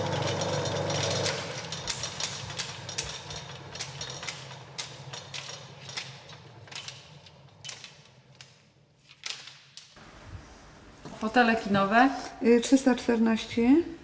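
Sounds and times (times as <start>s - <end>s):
projector machinery humming: 0.0s - 8.4s, 9.9s - 14.0s.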